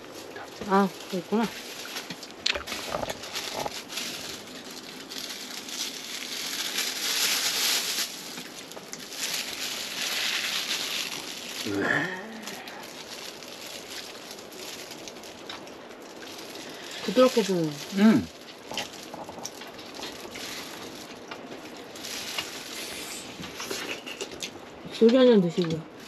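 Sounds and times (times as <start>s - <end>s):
heavy rain drumming on a roof: 0.0s - 23.6s.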